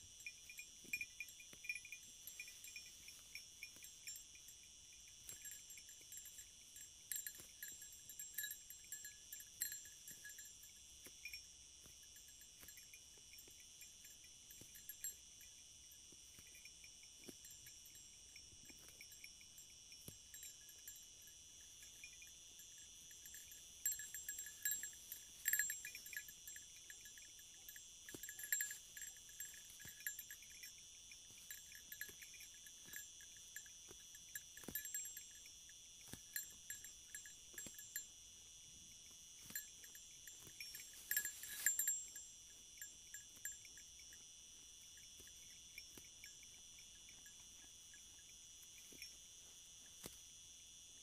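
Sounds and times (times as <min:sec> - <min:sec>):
crickets chirring: 0:00.0 - 0:51.0
faintly ringing clicks: 0:00.2 - 0:38.1, 0:39.4 - 0:44.2.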